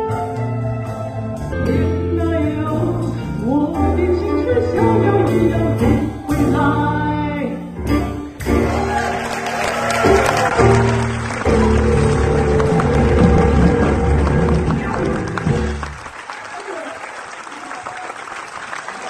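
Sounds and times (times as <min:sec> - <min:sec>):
live jazz band playing: 0:00.0 - 0:16.0.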